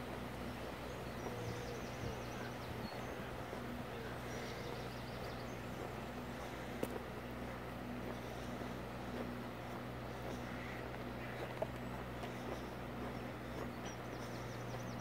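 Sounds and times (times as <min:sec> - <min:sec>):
outdoor background hum: 0:00.0 - 0:15.0
songbird chirping: 0:00.0 - 0:15.0.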